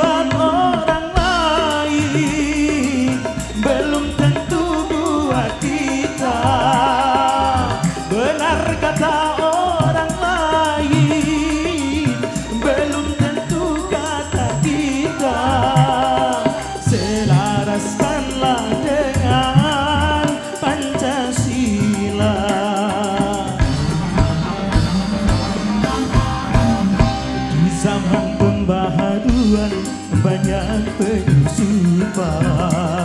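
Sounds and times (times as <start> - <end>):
live band music: 0.0 - 33.0.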